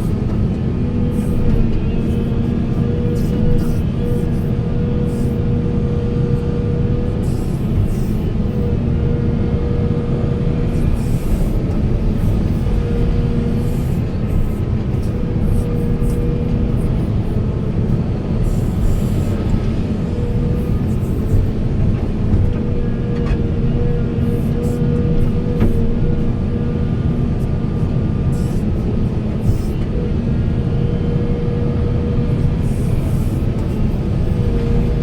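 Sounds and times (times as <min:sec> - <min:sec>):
excavator diesel engine running: 0:00.0 - 0:35.0
high hydraulic whine: 0:00.0 - 0:35.0.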